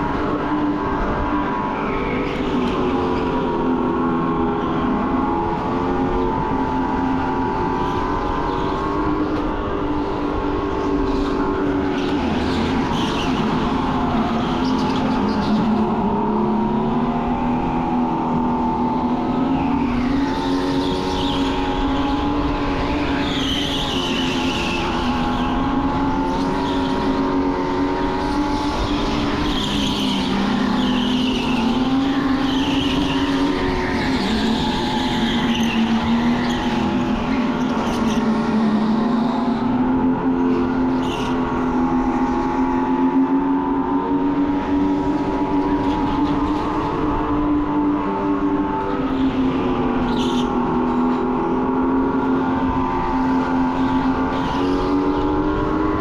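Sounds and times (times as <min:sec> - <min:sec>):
go-kart motor drone: 0:00.0 - 0:56.0.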